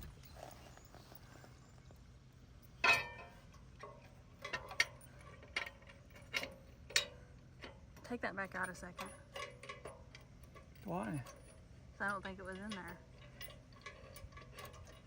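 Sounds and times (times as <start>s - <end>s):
small parts clicking and knocking: 2.8s - 15.0s.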